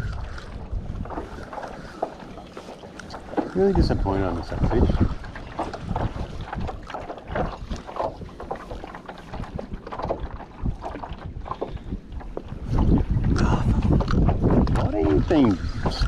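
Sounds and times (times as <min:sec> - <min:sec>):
water slapping hull: 0:00.0 - 0:16.0
wind buffeting microphone: 0:00.0 - 0:16.0.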